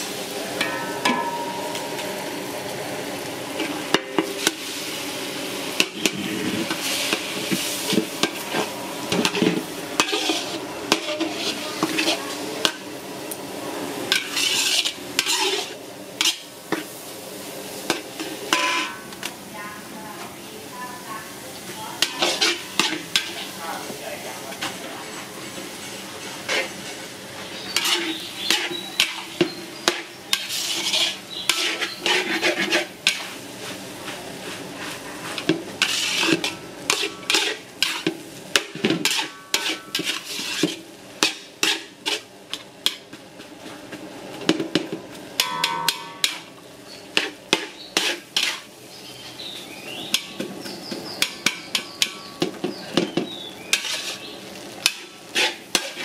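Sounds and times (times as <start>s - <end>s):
metal spatula scraping wok: 0.0s - 5.1s, 5.7s - 13.3s, 14.0s - 17.1s, 17.7s - 19.0s, 21.9s - 43.2s, 45.4s - 49.0s, 49.9s - 56.0s.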